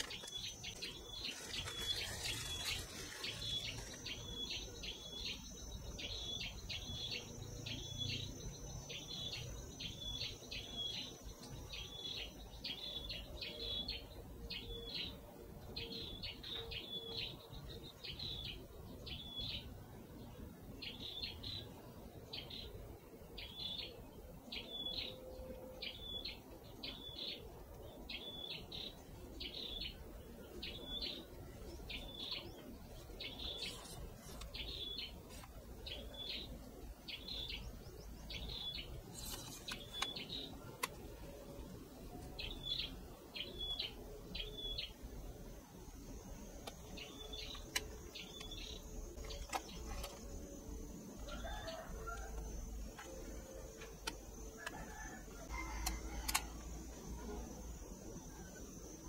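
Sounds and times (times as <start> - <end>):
bird chirping: 0.0 - 19.8, 23.4 - 41.1, 42.1 - 59.0.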